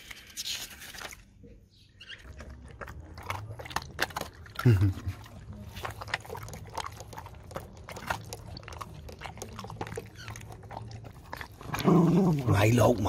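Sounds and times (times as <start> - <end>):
dogs chewing and licking food: 2.0 - 13.0.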